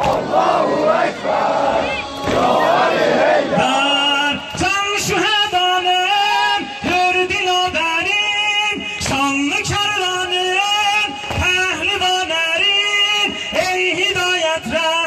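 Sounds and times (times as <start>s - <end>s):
person singing a mourning lament: 0.0s - 15.0s.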